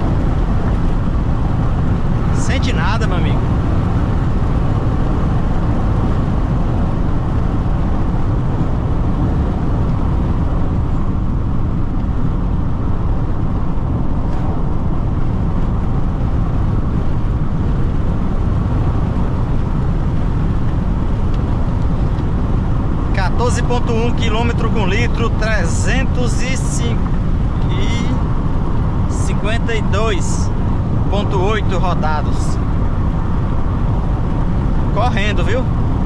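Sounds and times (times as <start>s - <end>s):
road and wind noise in car: 0.0s - 36.0s.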